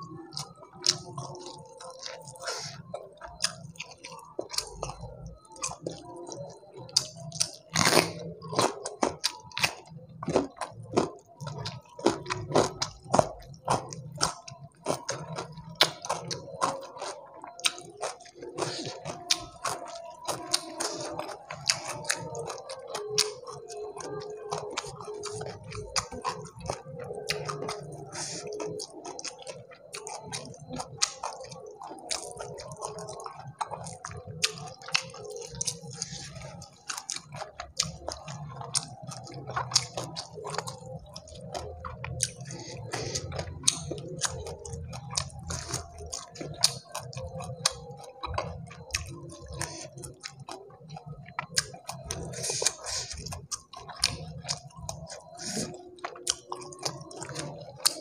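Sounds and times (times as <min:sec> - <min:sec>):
chewing with wet smacking: 0:00.0 - 0:58.0.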